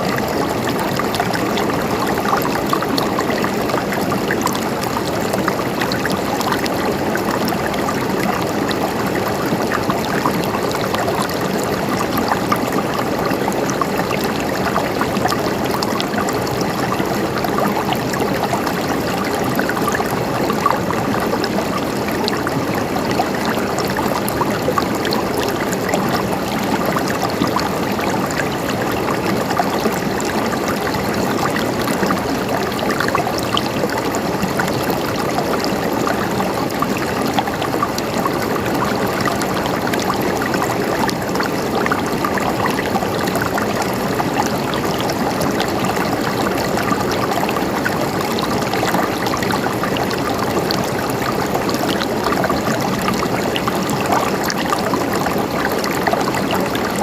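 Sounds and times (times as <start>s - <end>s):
river water running over rocks: 0.0s - 57.0s.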